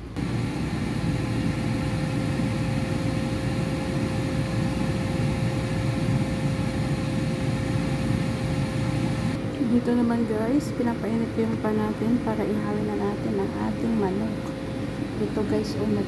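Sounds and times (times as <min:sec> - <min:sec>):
air fryer fan whirring: 0:00.0 - 0:16.0.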